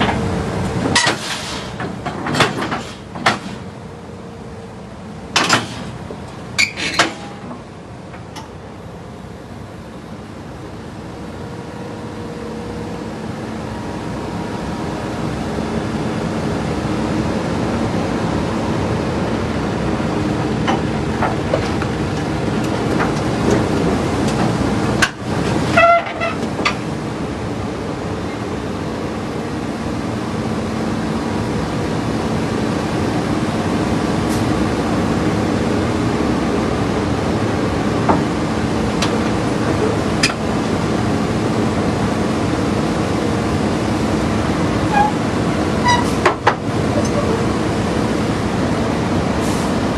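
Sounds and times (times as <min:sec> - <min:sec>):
steel tracks clanking: 0:00.0 - 0:04.0, 0:05.2 - 0:08.7, 0:11.0 - 0:49.9
excavator engine running: 0:00.0 - 0:49.9.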